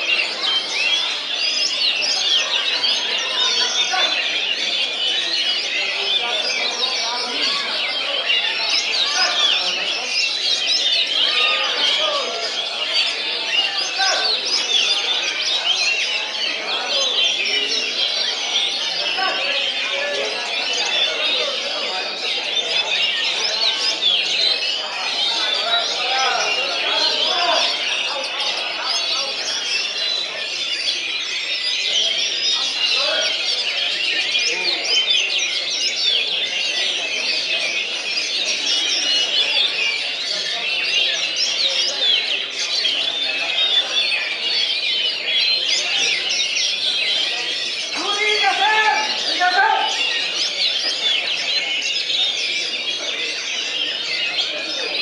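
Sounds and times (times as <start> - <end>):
faint people's voices: 0.0 - 55.0
songbirds singing: 0.0 - 55.0.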